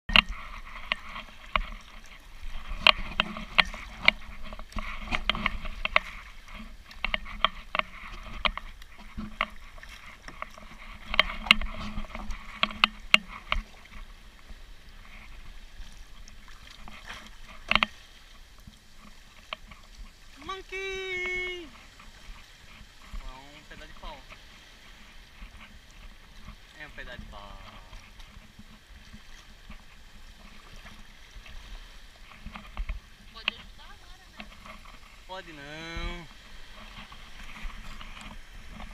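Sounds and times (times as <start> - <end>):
paddle blades splashing: 0.1 - 38.9
water sloshing against kayak: 0.1 - 38.9.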